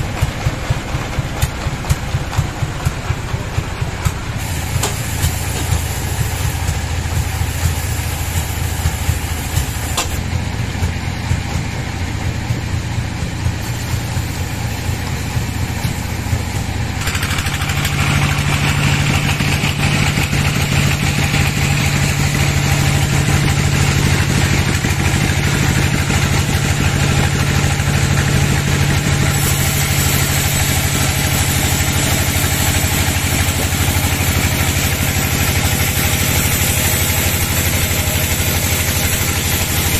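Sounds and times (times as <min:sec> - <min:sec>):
band saw sawing log: 0:00.0 - 0:39.9.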